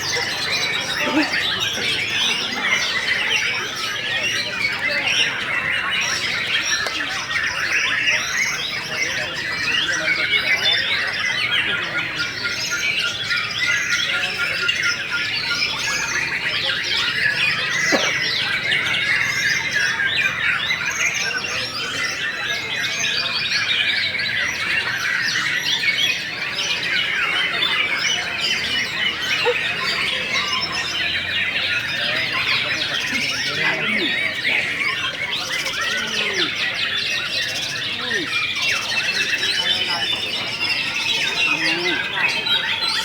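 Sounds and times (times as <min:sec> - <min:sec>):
many birds singing: 0:00.0 - 0:43.0.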